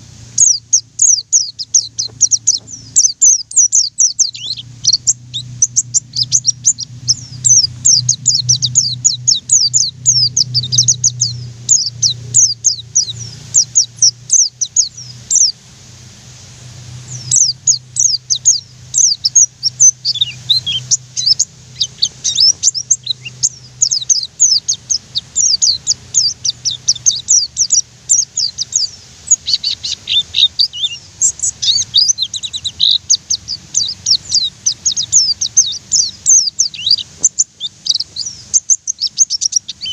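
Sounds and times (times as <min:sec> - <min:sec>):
bird chirping rapidly: 0:00.0 - 0:39.9
faint low hum: 0:00.0 - 0:39.9.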